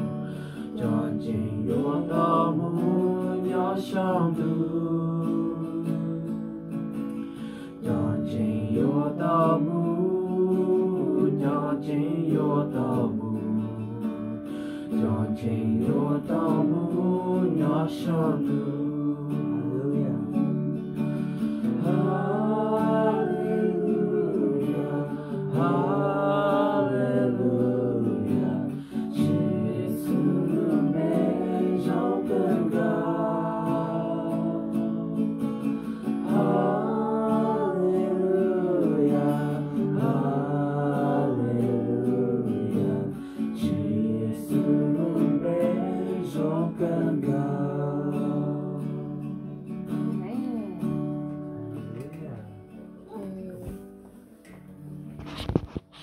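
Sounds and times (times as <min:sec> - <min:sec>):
group of people singing: 0:00.0 - 0:07.0, 0:07.7 - 0:20.8, 0:21.4 - 0:49.4
acoustic guitar: 0:00.0 - 0:56.0.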